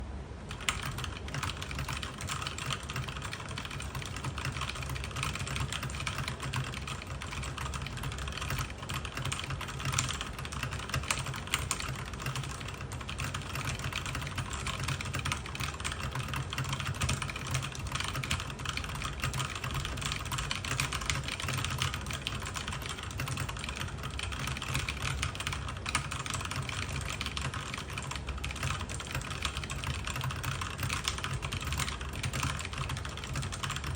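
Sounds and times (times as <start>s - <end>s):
fast mechanical keyboard typing: 0.5s - 33.9s.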